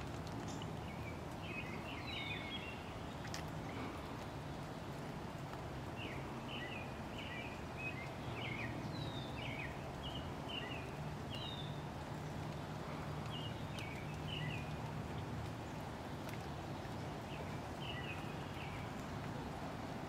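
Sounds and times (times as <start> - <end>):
small songbird singing: 0.4 - 3.9, 6.0 - 15.8, 16.6 - 19.9.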